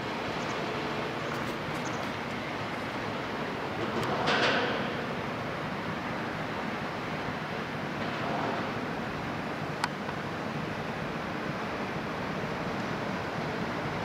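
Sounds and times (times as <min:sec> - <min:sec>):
water and wind rushing: 0:00.0 - 0:14.0.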